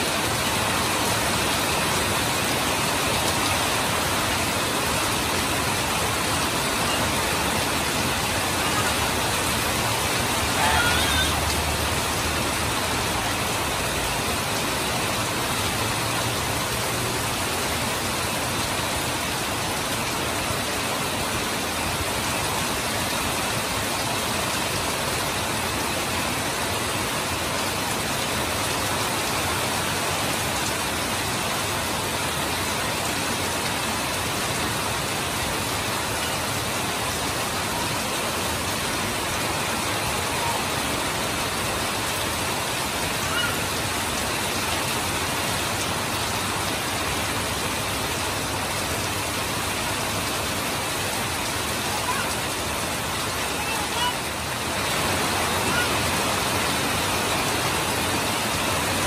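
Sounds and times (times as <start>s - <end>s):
heavy rain pouring: 0.0s - 59.0s
water streaming off roof: 0.0s - 59.0s.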